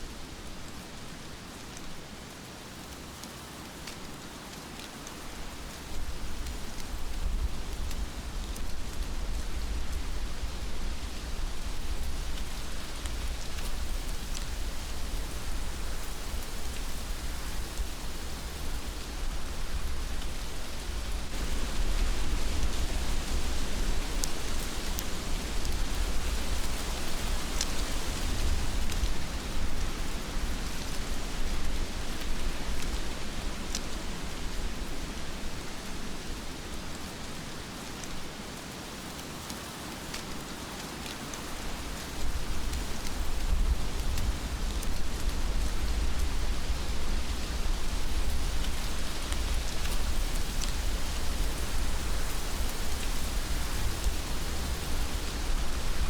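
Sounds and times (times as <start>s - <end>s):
heavy rain falling: 4.0s - 56.0s.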